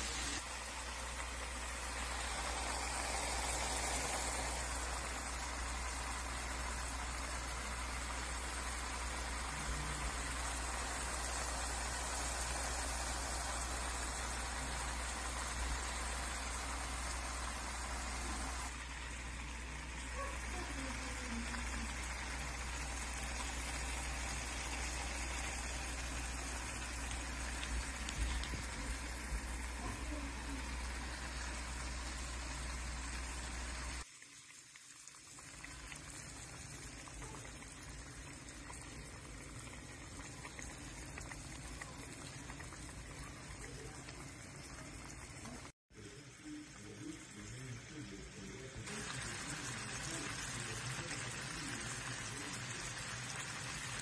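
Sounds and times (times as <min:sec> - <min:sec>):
curry bubbling and sizzling: 0:00.0 - 0:54.0.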